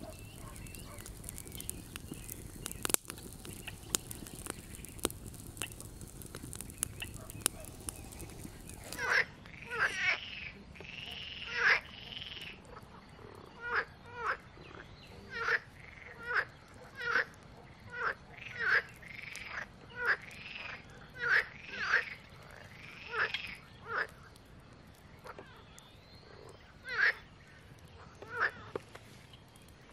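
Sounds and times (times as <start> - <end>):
frogs croaking: 0.0 - 28.8.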